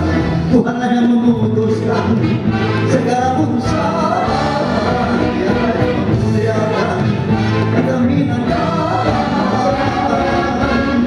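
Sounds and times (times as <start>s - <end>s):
live band playing: 0.0s - 11.0s
man singing: 0.0s - 11.0s.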